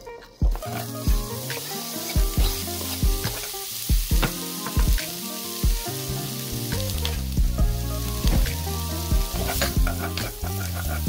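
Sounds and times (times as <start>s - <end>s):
background music with beat: 0.0s - 11.0s
onion sizzling in a pot: 0.5s - 11.0s.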